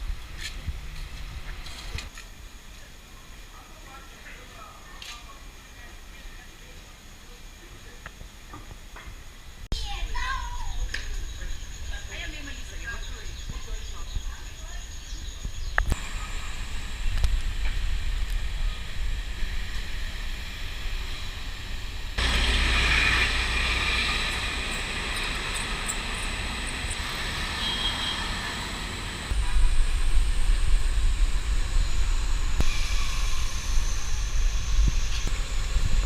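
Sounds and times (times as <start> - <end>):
passing traffic rumble and hiss: 0.0 - 36.0.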